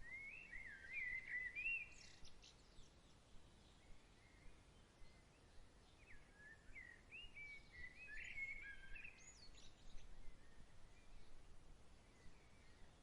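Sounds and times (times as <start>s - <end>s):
faint bird song: 0.0s - 13.0s
soft steady background hiss: 0.0s - 13.0s.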